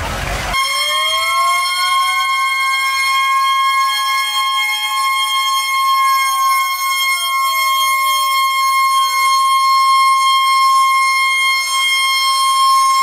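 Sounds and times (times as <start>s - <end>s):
high-pitched siren tone: 0.5s - 13.0s.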